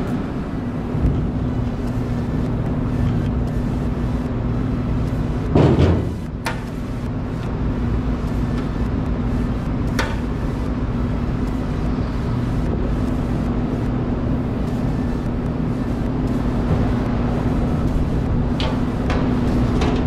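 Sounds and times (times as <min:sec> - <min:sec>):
exhaust fan humming: 0:00.0 - 0:20.0.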